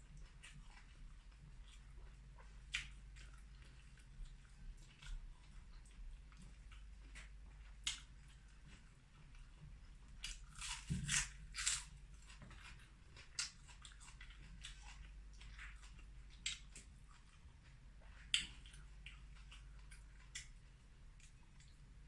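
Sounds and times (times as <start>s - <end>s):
chewing and lip-smacking: 0.0s - 22.0s.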